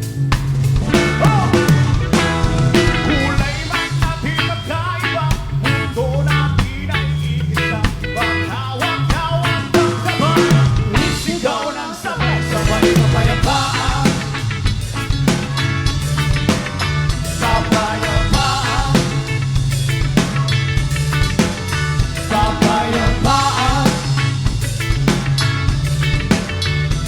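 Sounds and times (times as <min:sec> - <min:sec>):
reggae band playing: 0:00.0 - 0:27.0.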